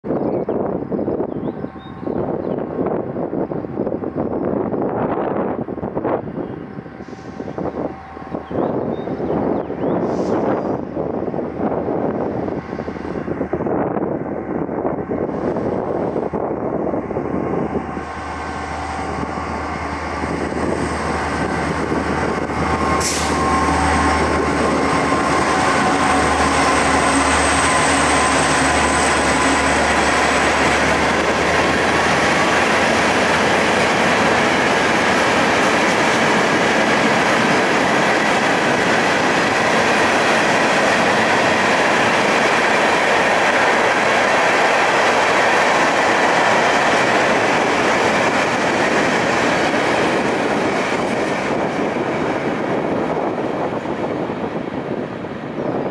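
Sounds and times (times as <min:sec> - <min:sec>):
train wheels on rail: 0:00.1 - 0:55.9
locomotive engine drone: 0:10.8 - 0:55.9.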